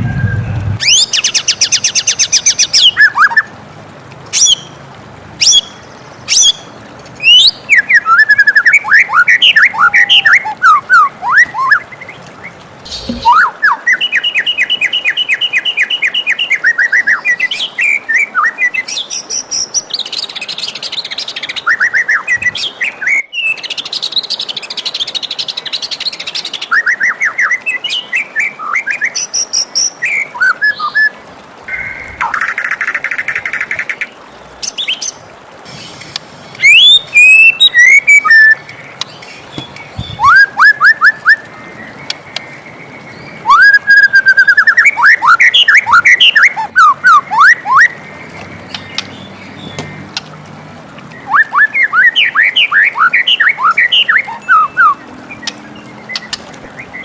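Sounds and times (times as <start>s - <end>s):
songbird singing trills and whistles: 0.0s - 3.5s, 5.4s - 31.1s, 36.5s - 42.5s, 43.1s - 48.0s, 51.1s - 57.0s.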